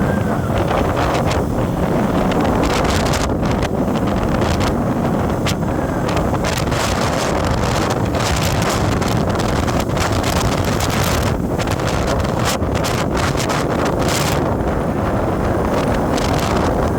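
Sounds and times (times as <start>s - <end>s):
road and engine rumble: 0.0s - 16.9s
wind buffeting microphone: 0.0s - 16.9s.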